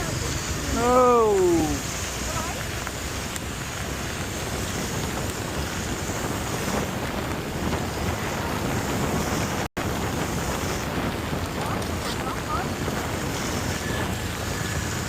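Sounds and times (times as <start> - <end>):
wind and rain on microphone: 0.0 - 15.0.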